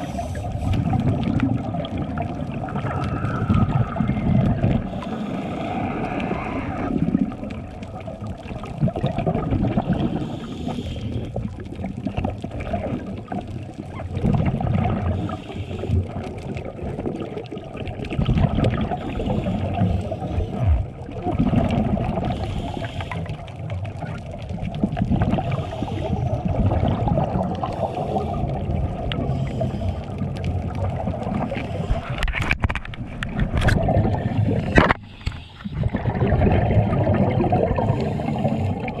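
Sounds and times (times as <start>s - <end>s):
regulator exhaust bubbles underwater: 0.0s - 39.0s.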